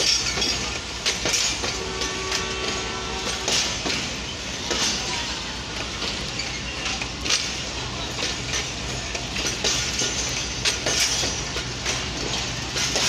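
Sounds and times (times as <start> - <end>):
diesel locomotive engine drone: 0.0 - 13.0
train wheels clicking and clanking: 0.0 - 13.0.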